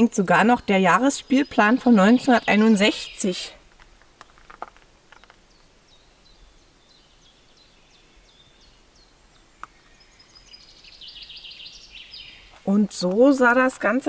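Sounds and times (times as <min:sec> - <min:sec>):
songbird chirps and trill: 0:00.0 - 0:14.0.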